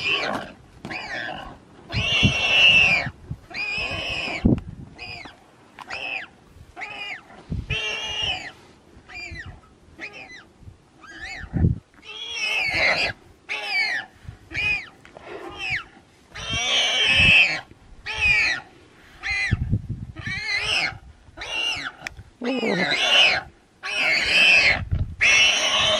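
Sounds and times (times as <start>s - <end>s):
warthog squealing: 0.0s - 8.5s, 9.1s - 19.6s, 20.2s - 25.9s.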